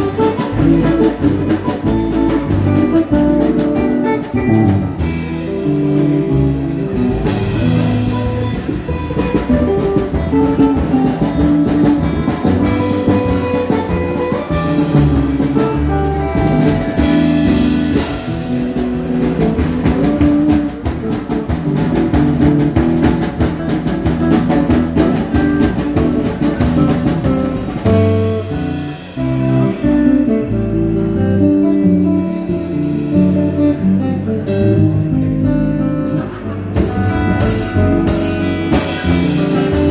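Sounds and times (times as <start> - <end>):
drum kit: 0.0 - 39.9
jazz guitar melody: 0.0 - 39.9.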